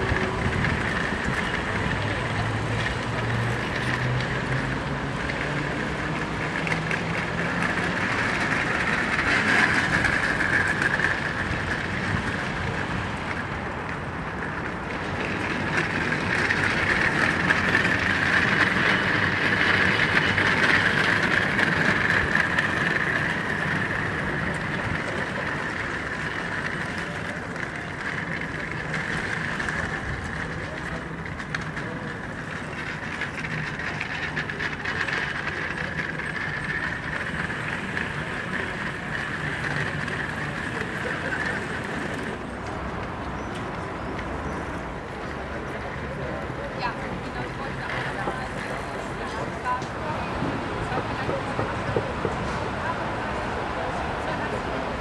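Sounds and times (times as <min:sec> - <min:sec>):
castor wheels rattling over stone: 0:00.0 - 0:55.0.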